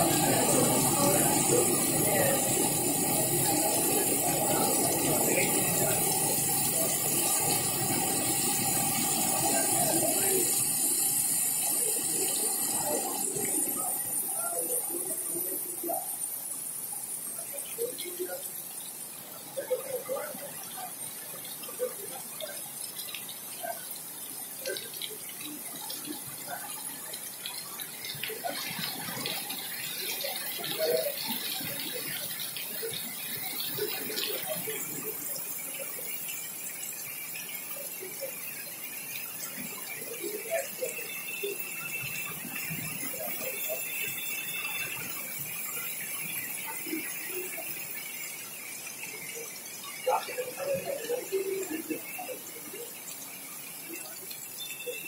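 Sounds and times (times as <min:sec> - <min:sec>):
heavy rain falling: 0:00.0 - 0:15.9, 0:19.3 - 0:55.0
drips and splashes: 0:00.0 - 0:55.0.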